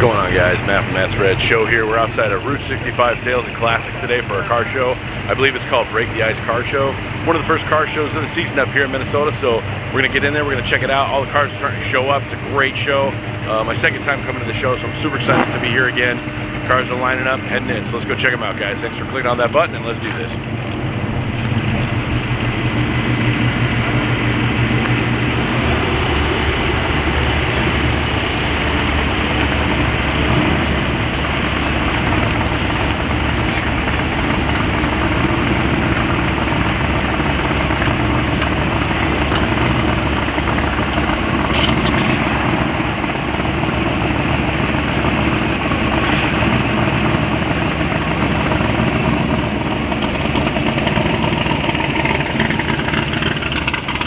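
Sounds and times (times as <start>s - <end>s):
car engines rumbling at low speed: 0.0s - 54.0s.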